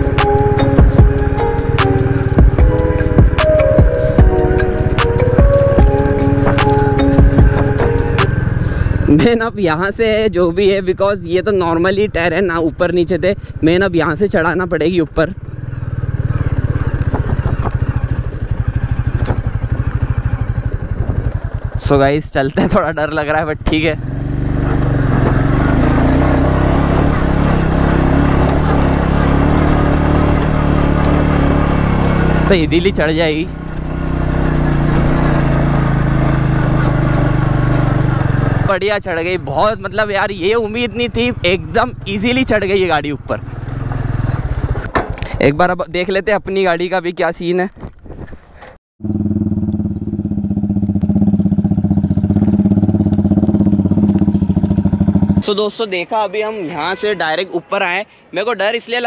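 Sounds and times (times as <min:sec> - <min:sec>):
motorcycle engine under heavy throttle: 0:00.0 - 0:45.5, 0:47.7 - 0:55.5.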